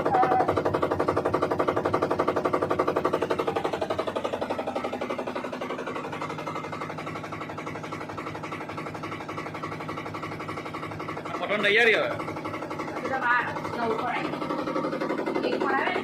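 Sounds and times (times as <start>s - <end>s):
washing machine pulsing noise: 0.0s - 16.0s.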